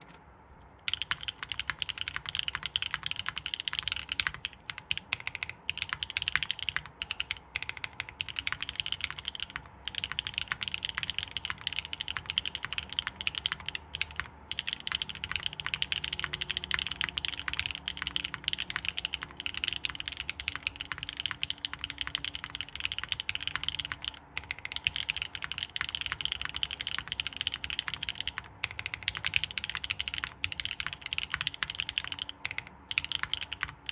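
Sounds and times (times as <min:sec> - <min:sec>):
fast typing on mechanical keyboard: 0:00.9 - 0:33.9.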